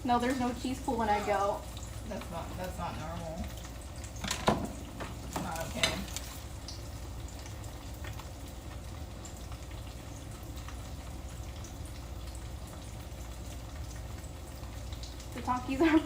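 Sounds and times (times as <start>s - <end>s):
deep-frying in hot oil: 0.0s - 16.0s.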